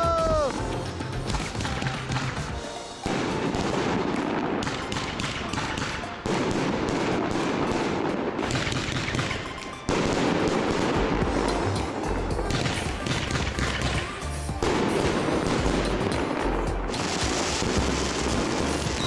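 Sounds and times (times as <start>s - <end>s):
fireworks crackling bangs: 0.0s - 19.0s.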